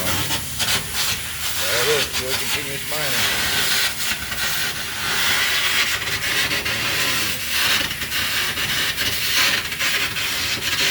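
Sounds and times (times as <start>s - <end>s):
mining machine scraping hiss: 0.0s - 10.9s.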